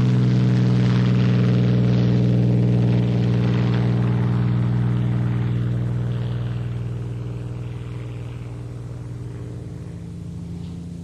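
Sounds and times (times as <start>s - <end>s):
aircraft engine at high power: 0.0s - 11.0s.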